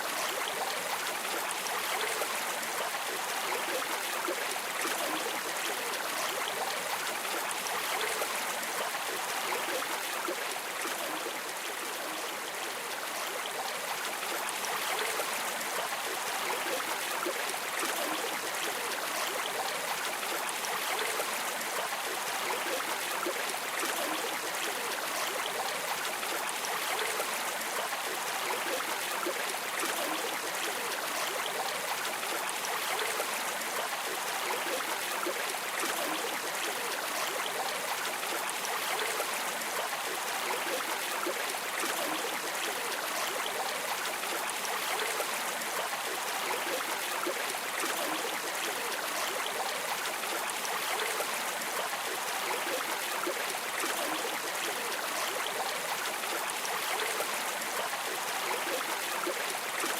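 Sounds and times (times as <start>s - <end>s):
flowing stream babbling: 0.0s - 59.9s.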